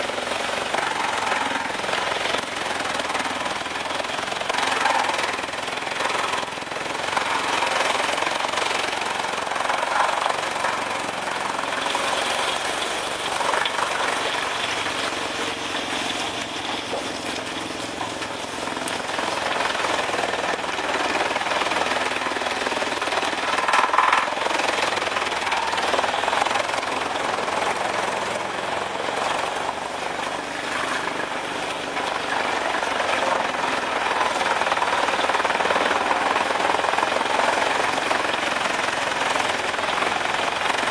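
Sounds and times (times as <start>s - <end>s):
wood chipper chipping wood: 0.0s - 40.9s.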